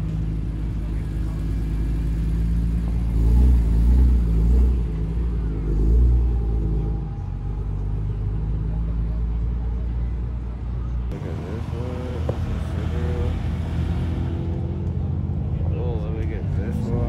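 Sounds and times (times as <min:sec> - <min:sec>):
car engine revving: 0:00.0 - 0:08.8, 0:11.1 - 0:17.0.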